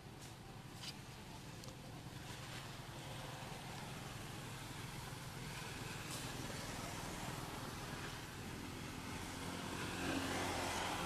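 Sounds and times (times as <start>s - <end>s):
motor traffic hum and rumble: 0.0s - 11.0s.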